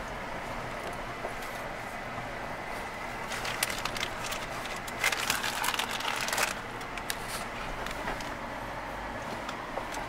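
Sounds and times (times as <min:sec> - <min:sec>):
tyre and road rumble: 0:00.0 - 0:10.0.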